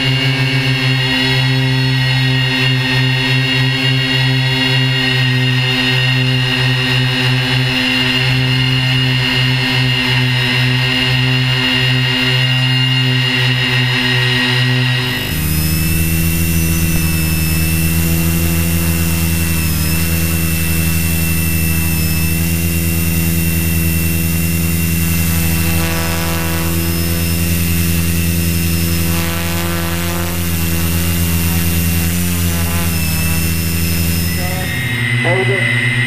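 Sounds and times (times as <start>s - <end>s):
drone propellers whirring: 0.0s - 36.0s.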